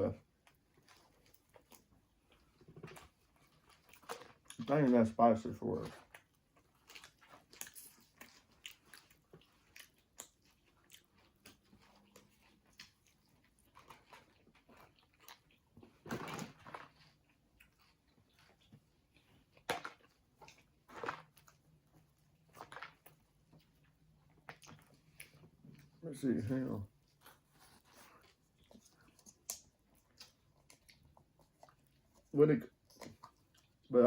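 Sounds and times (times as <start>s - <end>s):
chewing and mouth sounds: 0.0s - 34.0s.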